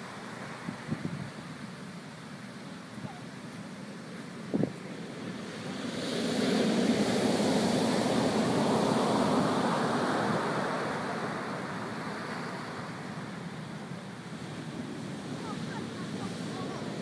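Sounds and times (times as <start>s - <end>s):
surf breaking on beach: 2.5s - 17.0s.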